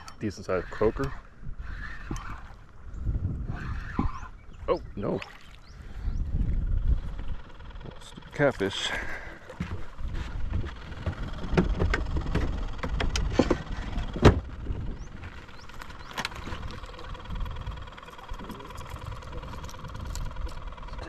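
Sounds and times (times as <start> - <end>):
wind rumble on microphone: 0.0 - 8.4, 9.6 - 21.0.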